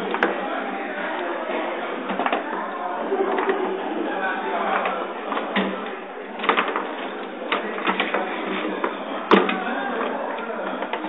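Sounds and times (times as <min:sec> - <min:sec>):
foosball rods and ball clacking: 0:00.0 - 0:11.0.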